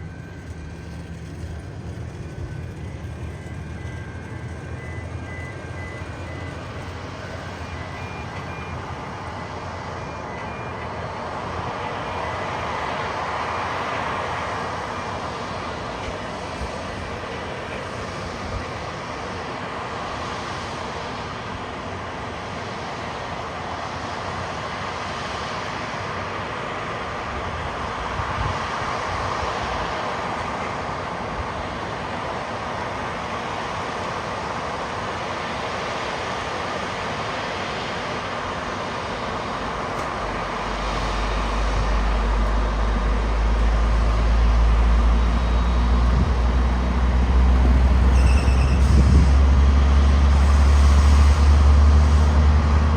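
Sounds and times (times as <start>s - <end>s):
jet engine rushing hum: 0.0s - 52.9s.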